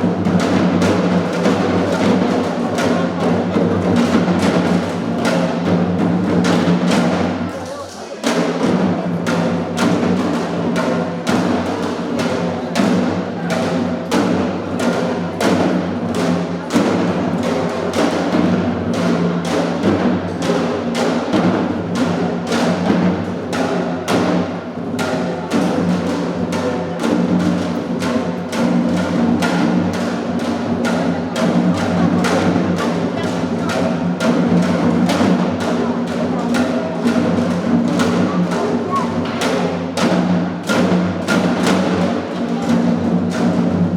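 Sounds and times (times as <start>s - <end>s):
drums fast steady beat: 0.0s - 43.9s.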